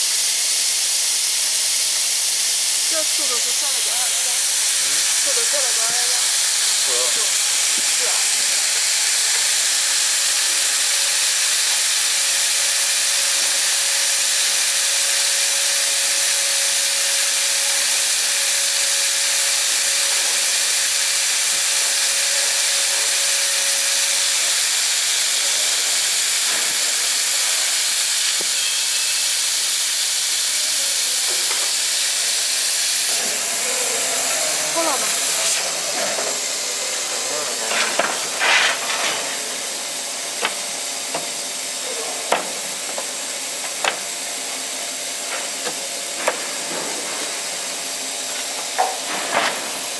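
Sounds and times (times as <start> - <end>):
compressed air hissing: 1.3 - 49.9.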